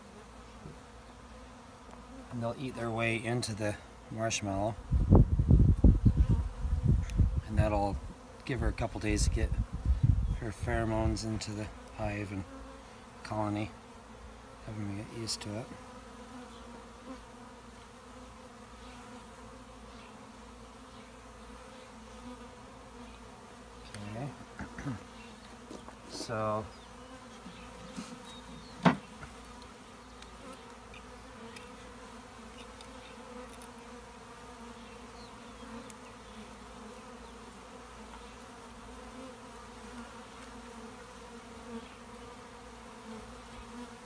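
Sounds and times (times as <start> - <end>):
honeybees buzzing: 0.0 - 44.0.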